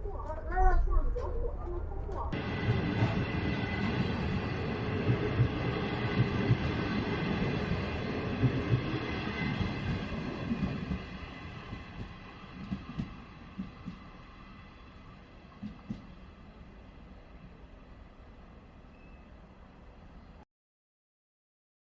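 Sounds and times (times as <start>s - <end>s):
train running hum: 0.0s - 20.4s.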